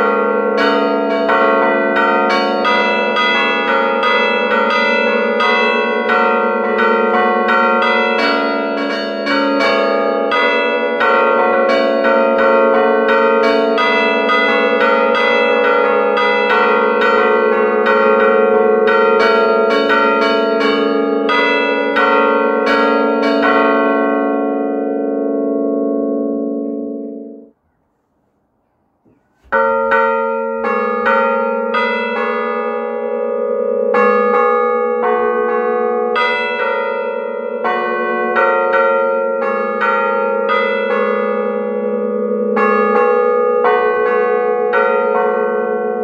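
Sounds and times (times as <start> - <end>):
church bells ringing: 0.0 - 27.6, 29.4 - 46.0.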